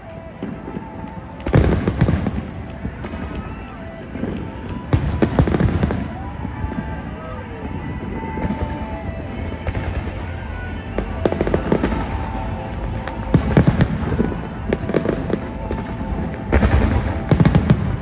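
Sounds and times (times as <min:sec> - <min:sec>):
fireworks bursting: 0:00.0 - 0:18.0
low rumble: 0:01.4 - 0:18.0.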